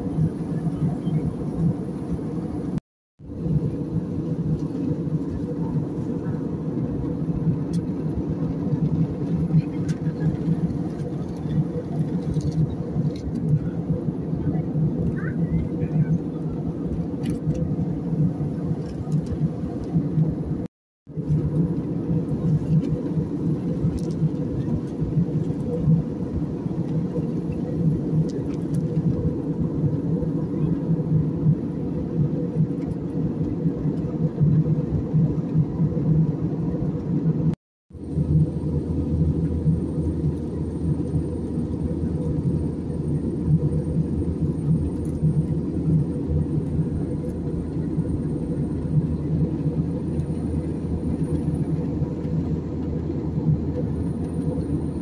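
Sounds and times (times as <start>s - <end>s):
jet engine rumble in cabin: 0.0s - 55.0s.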